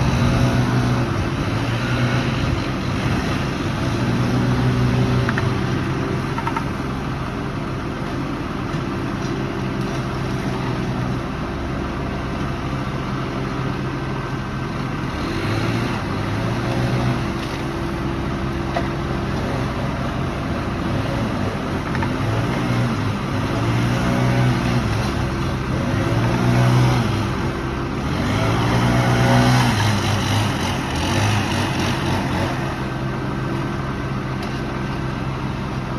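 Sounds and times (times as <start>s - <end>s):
heavy machinery engine running: 0.0s - 35.9s.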